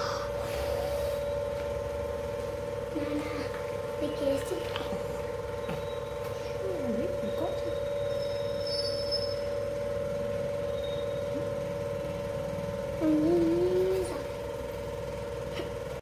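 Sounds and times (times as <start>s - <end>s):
steady droning hum: 0.0s - 16.0s.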